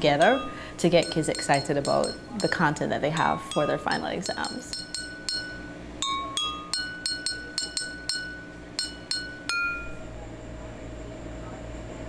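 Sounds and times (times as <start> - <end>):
spoon striking water glasses: 0.2 - 9.9.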